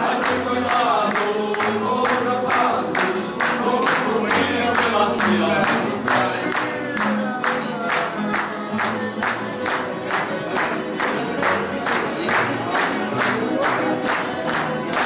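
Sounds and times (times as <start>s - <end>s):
group of people singing: 0.0s - 14.3s
rhythmic clapping: 0.0s - 15.0s.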